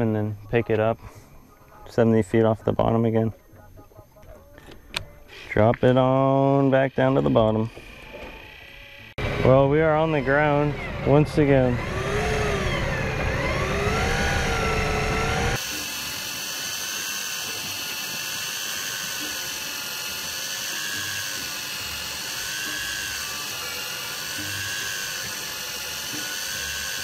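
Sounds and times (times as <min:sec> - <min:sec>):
electric reel motor whining: 0:04.6 - 0:27.0.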